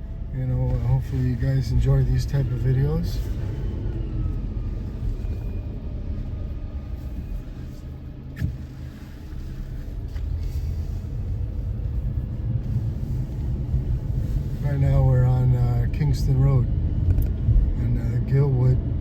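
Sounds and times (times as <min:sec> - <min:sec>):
car engine: 0:00.0 - 0:19.0
road noise: 0:00.0 - 0:19.0.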